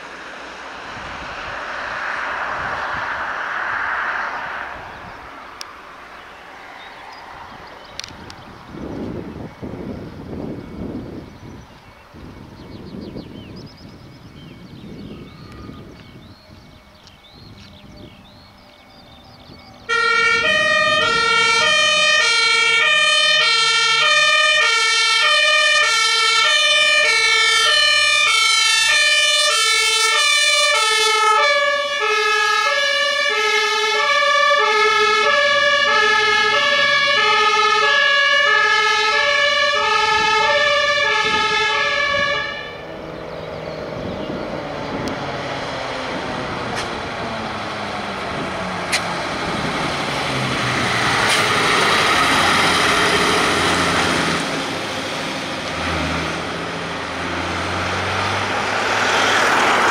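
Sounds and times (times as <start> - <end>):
two-tone fire engine siren: 0.0 - 11.6, 14.9 - 59.9
truck engines: 0.0 - 59.9
tyre noise on road: 0.0 - 59.9.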